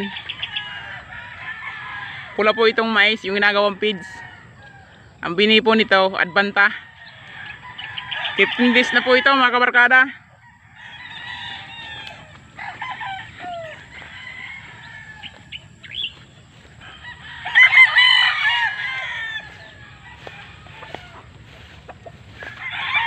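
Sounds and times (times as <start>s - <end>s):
roosters crowing: 0.0s - 23.0s.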